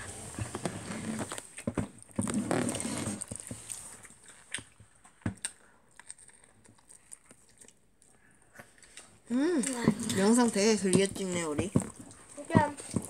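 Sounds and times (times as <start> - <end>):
boy chewing food: 0.0 - 13.0.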